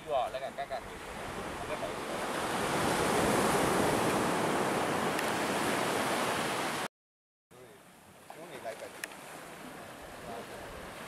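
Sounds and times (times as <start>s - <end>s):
surf rushing on beach: 0.0s - 6.9s, 8.1s - 11.0s.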